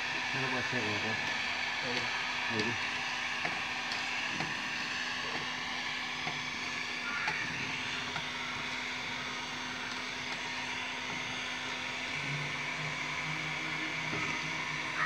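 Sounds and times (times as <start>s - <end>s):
heat gun fan blowing: 0.0s - 15.0s.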